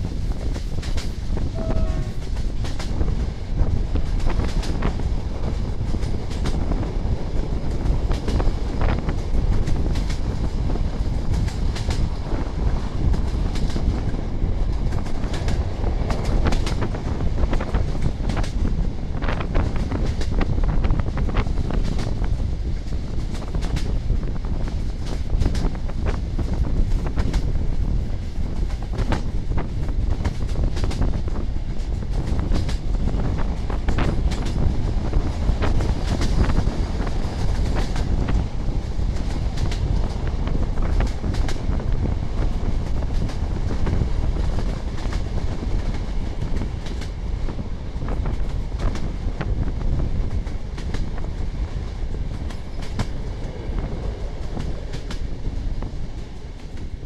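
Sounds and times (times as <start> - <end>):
train rumble: 0.0 - 57.0
train wheels clacking: 0.0 - 57.0.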